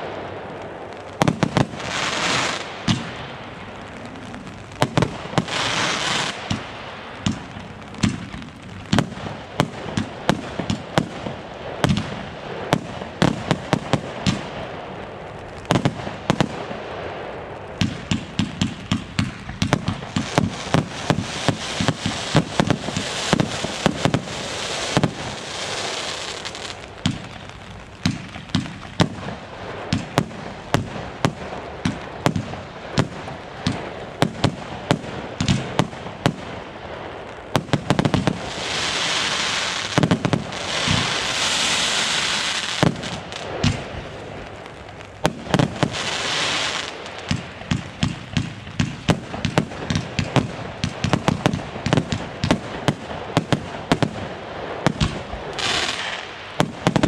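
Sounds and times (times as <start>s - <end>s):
fireworks bangs: 0.0s - 57.0s
fireworks hiss: 0.0s - 57.0s.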